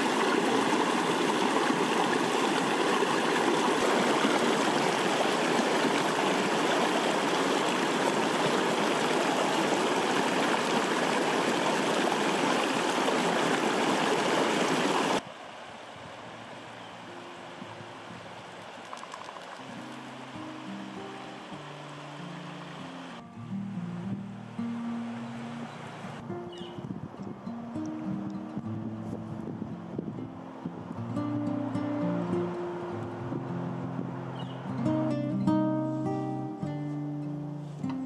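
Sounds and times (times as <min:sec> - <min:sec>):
stream rushing over boulders: 0:00.0 - 0:26.7, 0:29.9 - 0:36.6.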